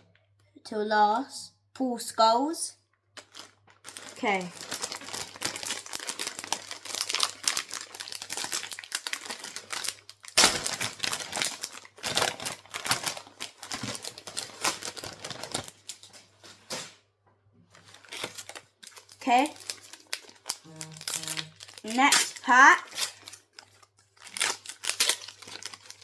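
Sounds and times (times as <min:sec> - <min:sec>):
foil wrapper crinkling: 0:03.2 - 0:16.8, 0:17.7 - 0:26.0.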